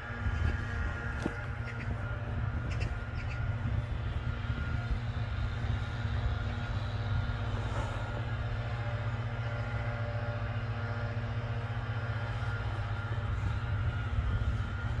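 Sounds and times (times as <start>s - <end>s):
distant road traffic rumble: 0.0s - 15.0s
faint hum: 0.0s - 15.0s.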